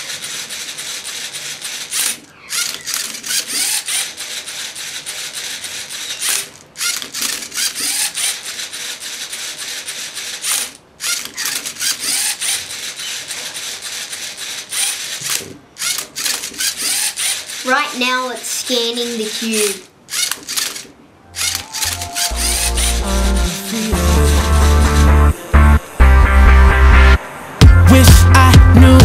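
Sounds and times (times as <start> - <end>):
robot servo motors whirring: 0.0 - 18.0, 19.1 - 25.2.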